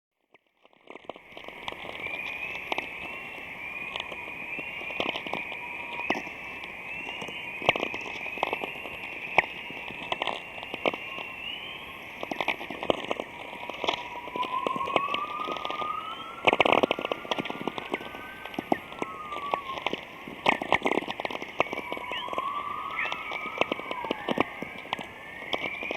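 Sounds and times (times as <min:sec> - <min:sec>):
crackling pops: 0:00.3 - 0:25.9
rising and falling whistle: 0:01.2 - 0:25.9
warbling rising chirps: 0:01.5 - 0:25.9.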